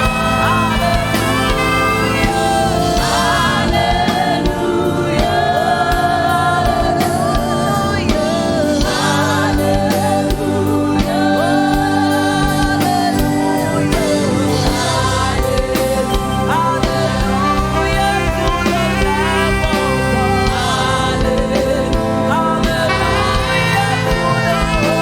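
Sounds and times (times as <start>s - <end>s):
band with steady beat: 0.0s - 25.0s
gospel singing with vibrato: 0.0s - 25.0s.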